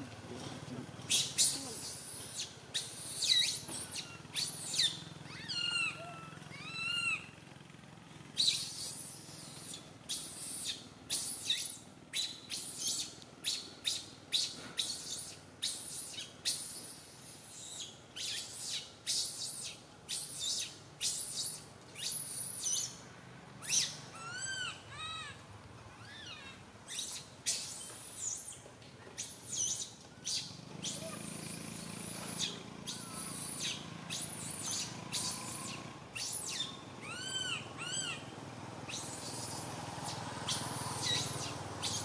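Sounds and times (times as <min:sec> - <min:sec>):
baby monkey squealing: 0:01.1 - 0:07.3, 0:08.4 - 0:23.0, 0:23.6 - 0:28.6, 0:29.2 - 0:38.3, 0:38.9 - 0:42.0
baby monkey whimpering cries: 0:01.1 - 0:07.3, 0:08.4 - 0:22.9, 0:23.6 - 0:28.6, 0:29.2 - 0:38.3, 0:38.9 - 0:42.0.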